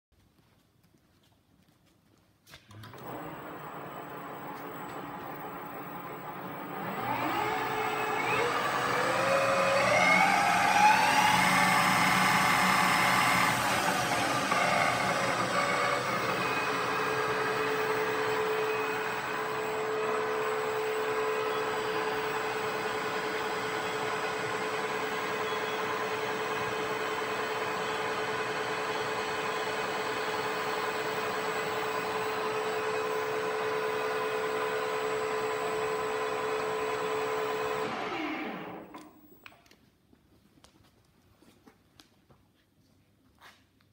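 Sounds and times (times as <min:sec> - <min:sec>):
lathe whine: 0:02.8 - 0:39.4.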